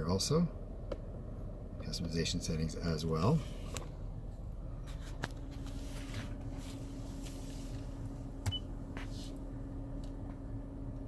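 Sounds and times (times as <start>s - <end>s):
steady low cabin hum: 0.0s - 11.0s.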